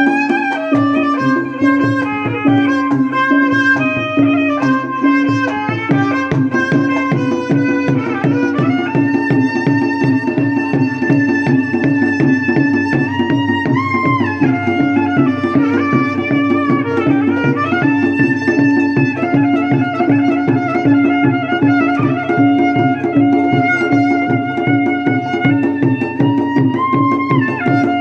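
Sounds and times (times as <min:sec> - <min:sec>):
reedy lead melody: 0:00.0 - 0:28.0
steady drum beat: 0:00.0 - 0:28.0.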